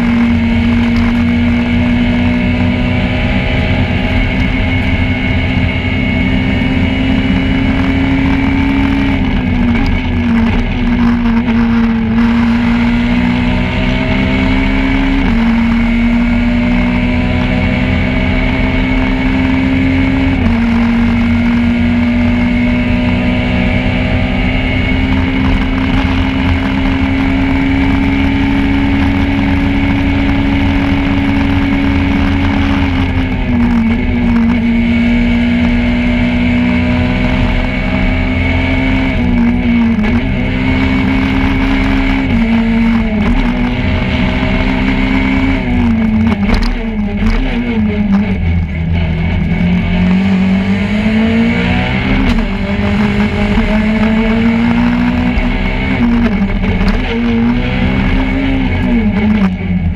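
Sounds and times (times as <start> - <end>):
rally car engine revving: 0.0 - 59.9
steady road noise: 0.0 - 59.9.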